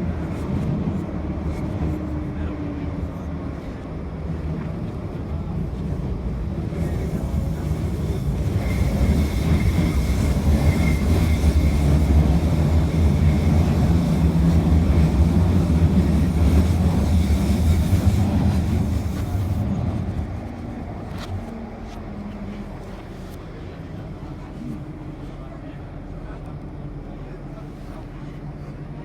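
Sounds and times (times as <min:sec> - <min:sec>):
underground train rumble: 0:00.0 - 0:29.0.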